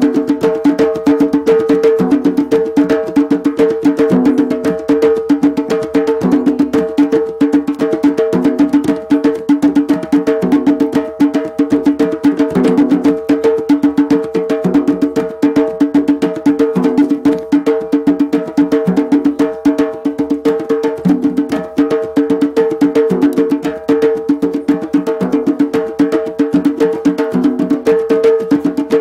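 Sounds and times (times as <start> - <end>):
drums played fast: 0.0 - 29.0.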